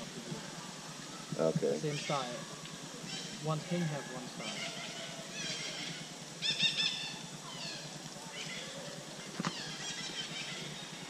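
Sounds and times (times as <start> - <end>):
birds chirping: 0.8 - 11.0.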